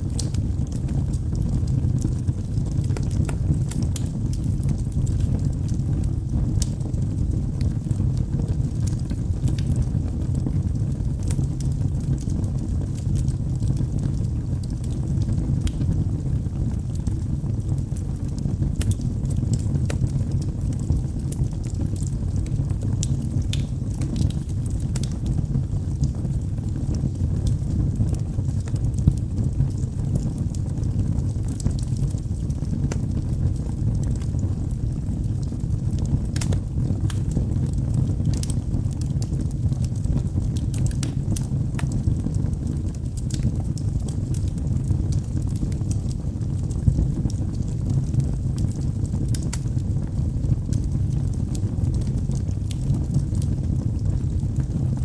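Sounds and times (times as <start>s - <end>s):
low rumble of flames: 0.0s - 55.0s
logs crackling and popping: 0.1s - 55.0s.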